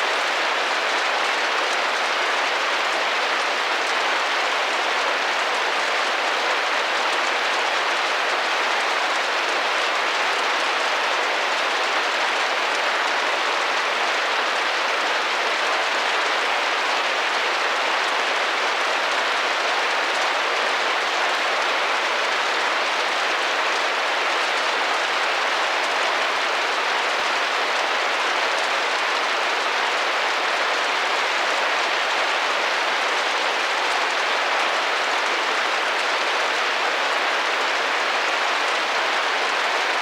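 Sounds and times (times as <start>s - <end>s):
rain on a window pane: 0.0s - 40.0s.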